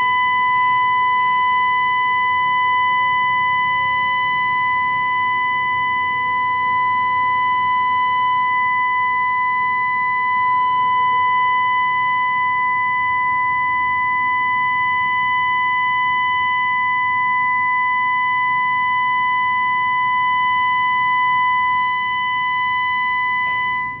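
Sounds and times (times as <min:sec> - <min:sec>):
steady siren tone: 0:00.0 - 0:24.0.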